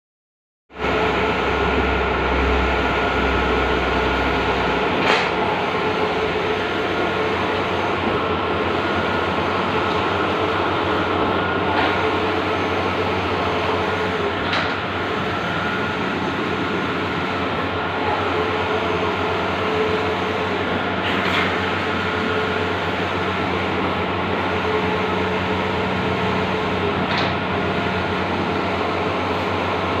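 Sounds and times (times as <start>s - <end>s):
printer whirring and humming: 0.8s - 30.0s.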